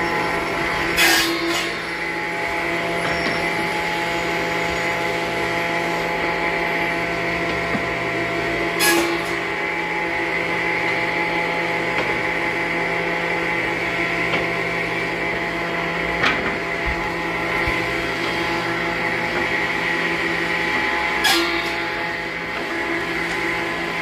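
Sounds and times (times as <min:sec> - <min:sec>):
circular saw machinery running: 0:00.0 - 0:24.0.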